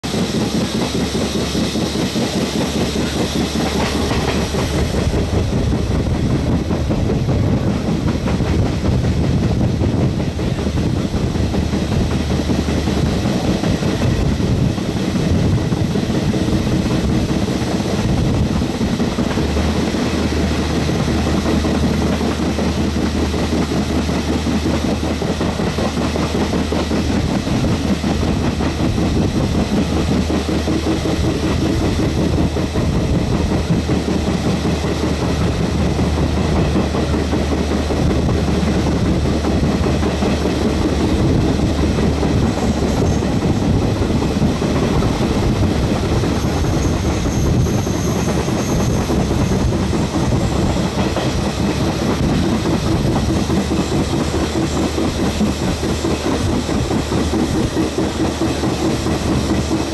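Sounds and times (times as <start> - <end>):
train wheels rumbling clickety-clack: 0.0 - 59.9.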